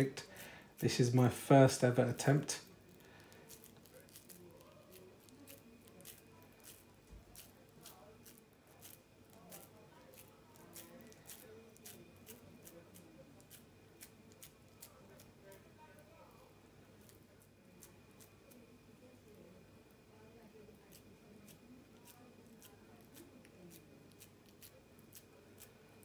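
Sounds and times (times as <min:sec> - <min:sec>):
sticky squelching of raw minced meat: 0:00.0 - 0:16.0, 0:16.9 - 0:18.7, 0:20.8 - 0:26.0.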